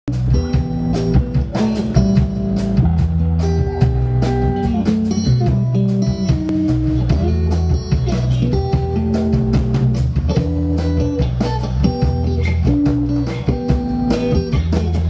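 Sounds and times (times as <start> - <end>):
drum kit steady beat: 0.1 - 15.0
electric bass guitar: 0.1 - 15.0
electric guitar notes: 0.1 - 15.0.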